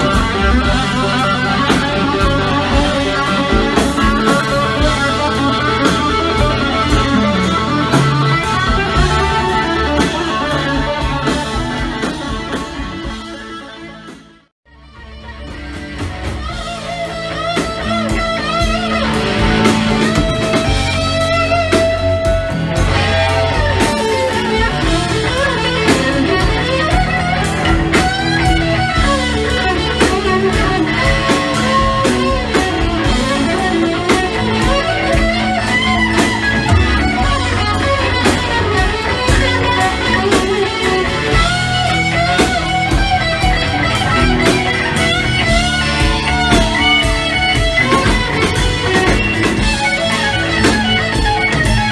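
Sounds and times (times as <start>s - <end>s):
electric guitar bending notes: 0.0s - 51.9s
live band playing: 0.0s - 51.9s.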